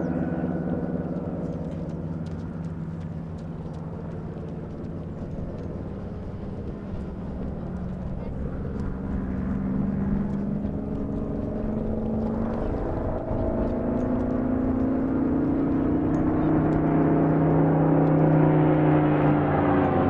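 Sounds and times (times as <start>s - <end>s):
propeller aircraft engine drone: 0.0s - 20.0s.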